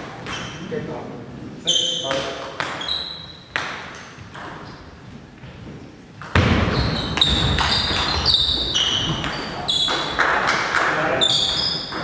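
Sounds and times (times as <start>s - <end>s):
shoes squeaking on floor: 1.6s - 12.0s.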